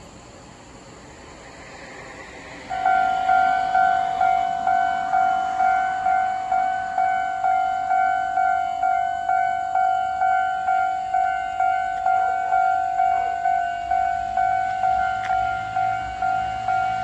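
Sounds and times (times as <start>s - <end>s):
level-crossing warning bell: 2.0s - 17.0s.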